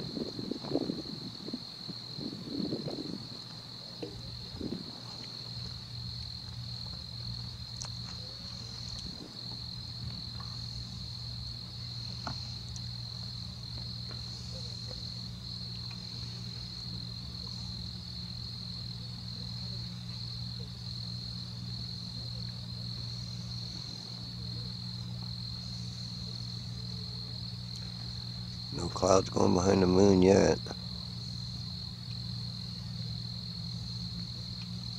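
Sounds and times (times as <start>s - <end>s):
crickets trilling: 0.0s - 34.9s
low hum: 0.0s - 34.9s.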